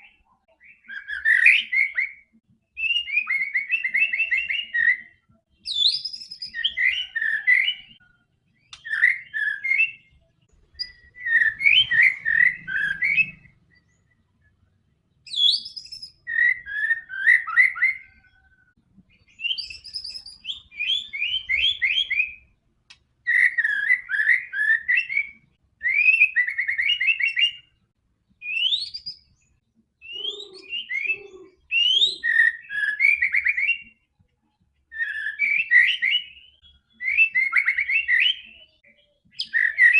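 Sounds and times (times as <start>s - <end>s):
bird singing whistles and trills: 0.0s - 14.4s, 15.2s - 22.6s, 23.3s - 27.8s, 28.4s - 34.1s, 34.8s - 39.9s.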